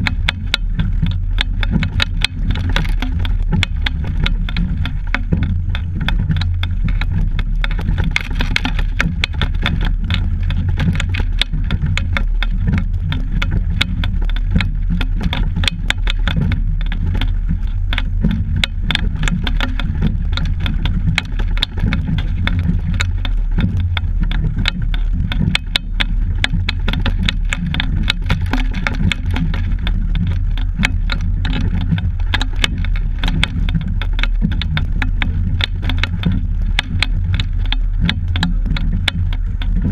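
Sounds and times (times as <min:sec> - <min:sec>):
rumble and rattling of boat: 0:00.0 - 0:39.9
small clicks: 0:00.0 - 0:39.9.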